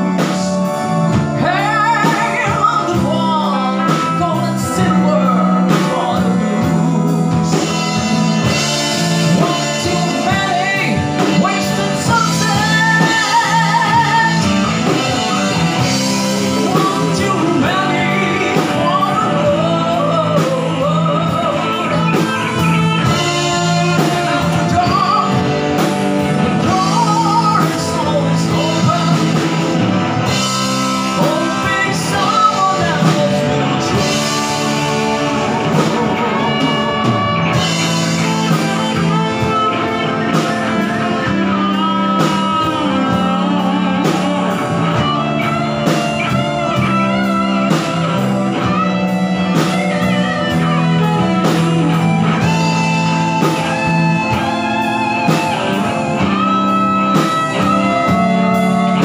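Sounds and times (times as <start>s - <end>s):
man singing into microphone: 0.0s - 48.6s
drum kit: 0.0s - 59.0s
electric guitars: 0.0s - 59.0s
keyboard: 0.0s - 59.0s.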